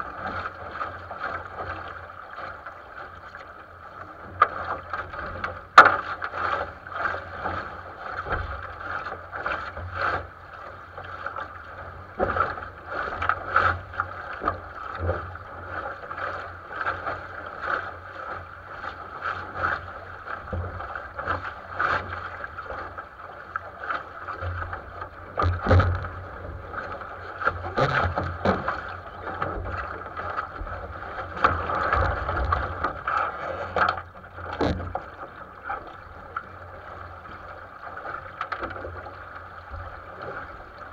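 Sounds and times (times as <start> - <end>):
water rushing along hull: 0.0 - 40.9.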